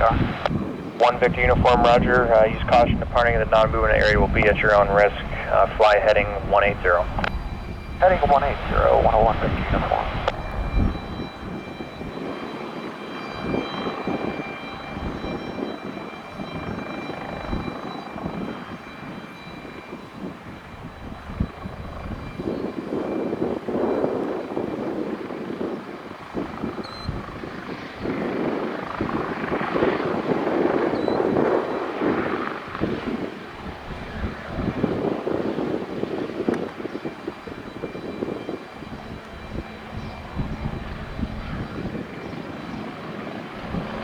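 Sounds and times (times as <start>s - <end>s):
helicopter turbine whine: 0.0s - 44.0s.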